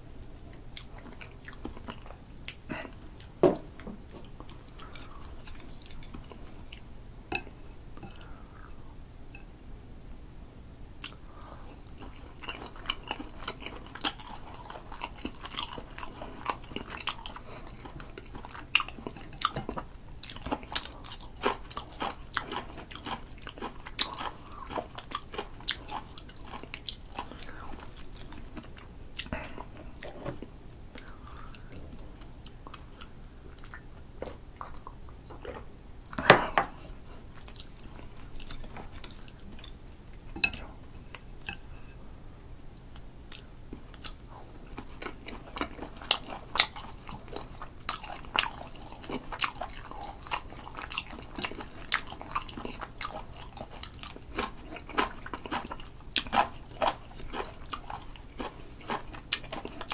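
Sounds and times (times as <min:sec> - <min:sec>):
person chewing food: 0:00.2 - 0:08.9, 0:11.0 - 0:42.0, 0:43.0 - 0:59.9.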